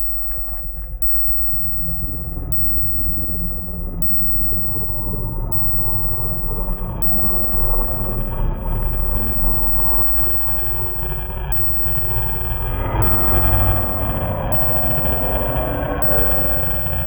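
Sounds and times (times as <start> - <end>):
deep rumbling horror drone: 0.0 - 17.0.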